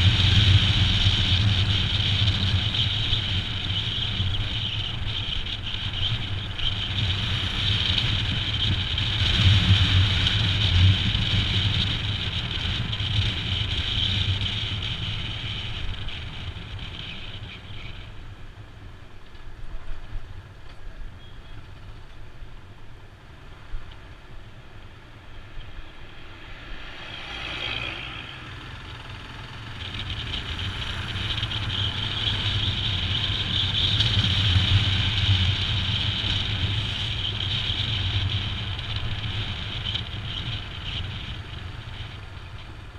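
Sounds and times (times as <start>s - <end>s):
motorcycle engine running: 0.0s - 18.2s, 25.1s - 42.9s.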